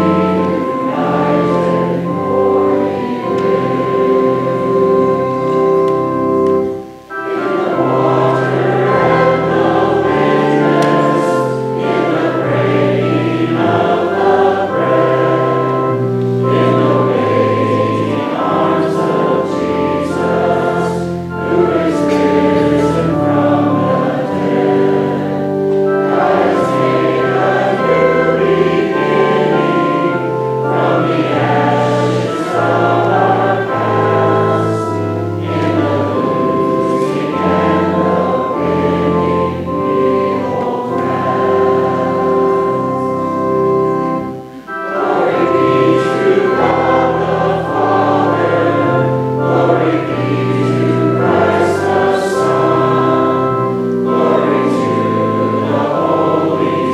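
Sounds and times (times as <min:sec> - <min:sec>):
congregation singing a hymn: 0:00.0 - 0:56.9
organ chords: 0:00.0 - 0:56.9.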